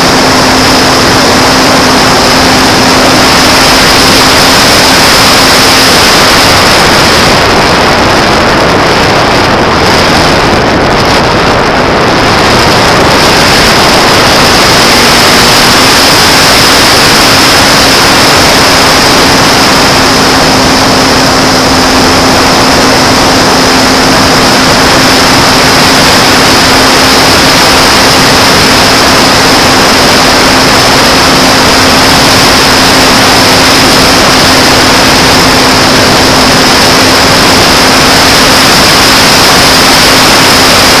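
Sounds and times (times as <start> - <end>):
electric motor and propeller running: 0.0 - 41.0
steady high whine: 0.0 - 41.0
wind rushing over microphone: 0.0 - 41.0.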